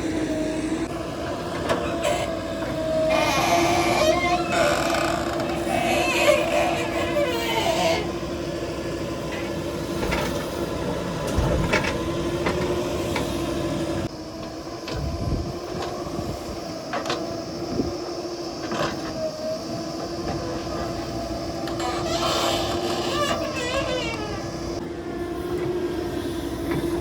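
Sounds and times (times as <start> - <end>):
diesel engine humming: 0.0 - 27.0.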